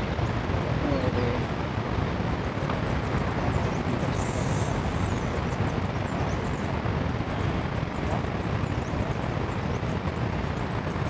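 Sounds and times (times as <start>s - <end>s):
rushing outdoor background noise: 0.0s - 11.0s.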